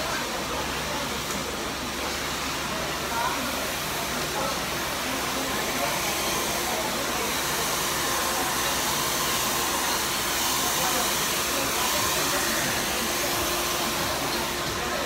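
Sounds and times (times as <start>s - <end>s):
blow dryer running: 0.0s - 15.0s.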